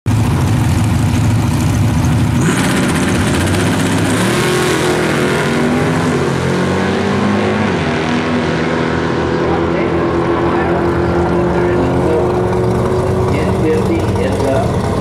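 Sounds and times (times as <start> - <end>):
racing car engines accelerating: 2.3 - 15.0.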